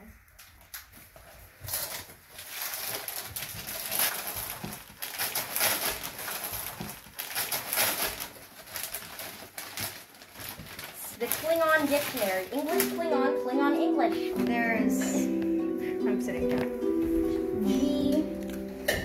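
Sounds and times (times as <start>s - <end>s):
wrapping paper rustling: 0.3s - 19.0s.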